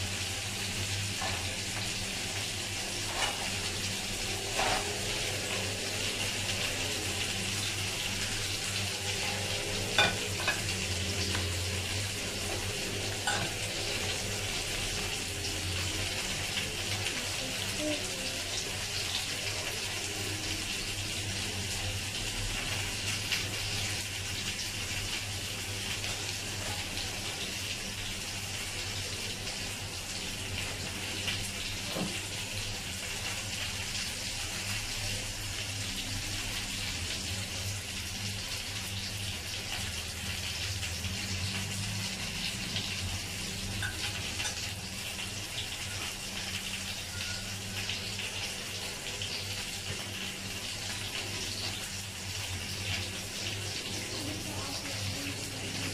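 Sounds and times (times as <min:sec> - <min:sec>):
meat sizzling in a frying pan: 0:00.0 - 0:55.9.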